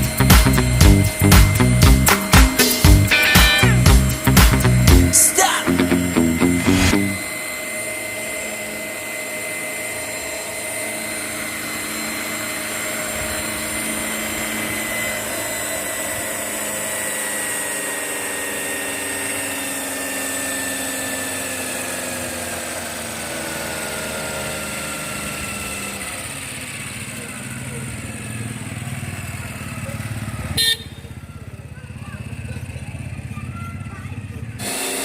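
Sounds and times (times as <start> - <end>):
rc helicopter motor and rotor whine: 0.0 - 30.6, 33.8 - 35.0.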